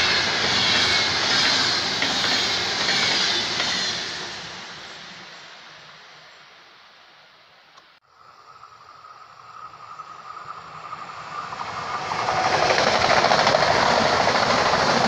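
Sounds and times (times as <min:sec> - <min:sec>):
train passing: 0:00.0 - 0:07.4, 0:08.1 - 0:15.0.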